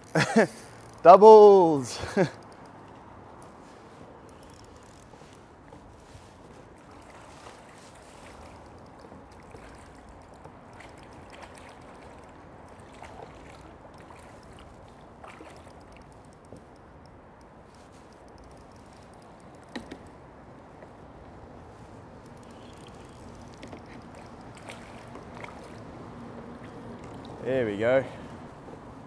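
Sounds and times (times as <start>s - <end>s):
gear clicking against hull: 0.0s - 1.4s, 2.0s - 3.6s, 4.2s - 20.9s, 22.2s - 26.0s
water lapping around kayak: 0.3s - 29.0s.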